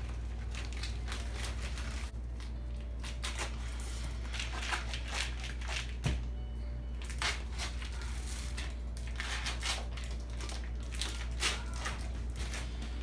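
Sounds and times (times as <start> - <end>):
steady low hum: 0.0 - 9.4, 11.2 - 13.0
crunching and scraping in a bowl: 0.0 - 13.0.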